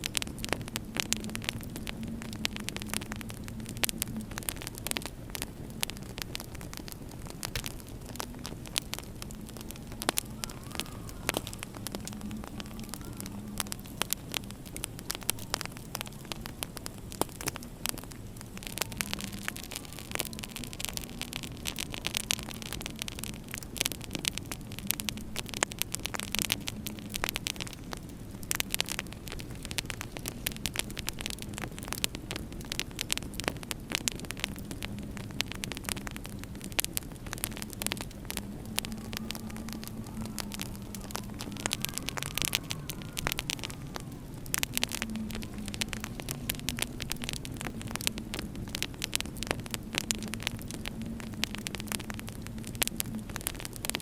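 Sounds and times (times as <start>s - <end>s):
howling winter wind: 0.0s - 54.0s
wood fire crackling and popping: 0.0s - 54.0s.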